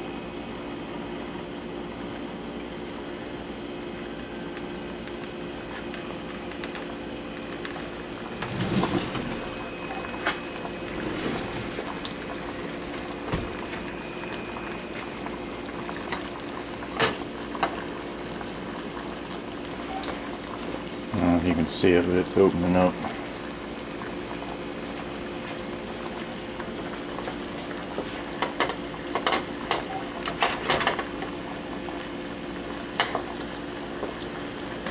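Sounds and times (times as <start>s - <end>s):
water boiling and bubbling: 0.0s - 34.9s.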